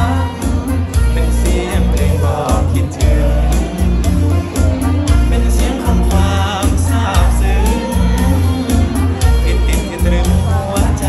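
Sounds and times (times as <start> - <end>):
backing track with bass beat: 0.0 - 11.0
man singing into microphone: 0.0 - 11.0.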